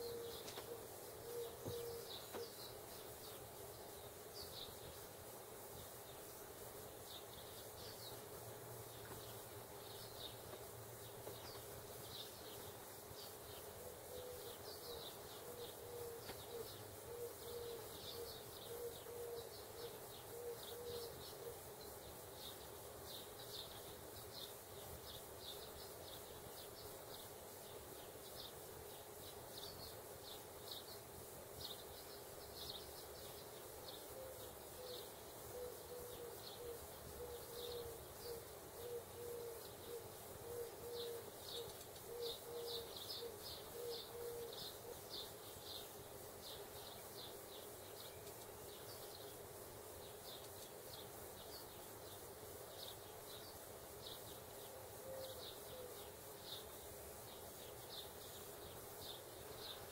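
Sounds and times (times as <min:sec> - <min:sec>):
bird chirping: 0:00.0 - 0:05.0, 0:05.7 - 0:59.9.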